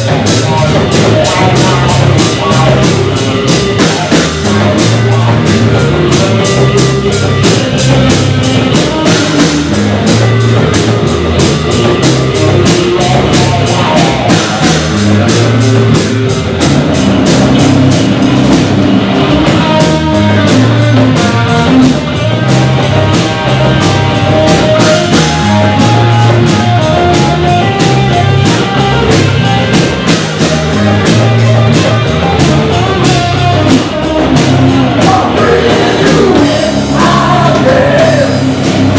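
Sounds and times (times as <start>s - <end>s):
loud live rock band: 0.0s - 38.9s.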